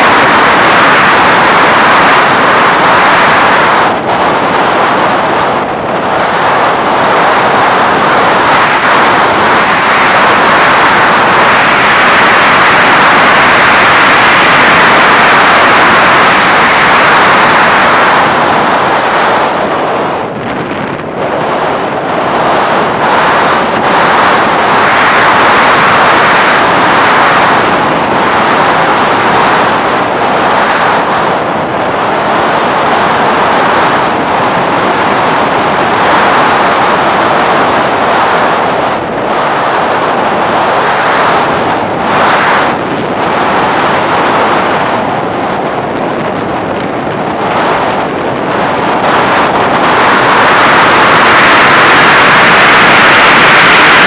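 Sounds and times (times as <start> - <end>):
wind rushing on microphone: 0.0 - 54.0.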